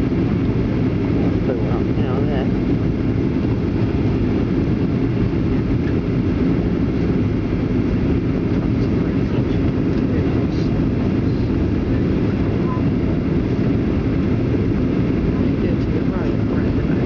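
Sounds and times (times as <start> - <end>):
airplane cabin roar: 0.0 - 17.0
jet engine and airflow noise: 0.0 - 17.0.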